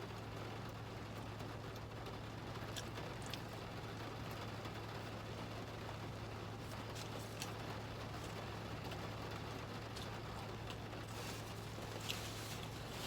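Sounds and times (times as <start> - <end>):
rain on a car roof: 0.0 - 13.0.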